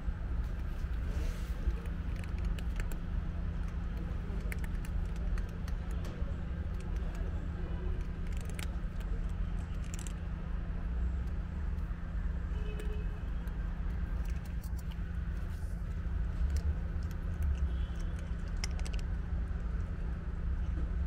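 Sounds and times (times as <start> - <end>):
cats crunching dry kibble: 0.4 - 12.0, 12.7 - 20.0.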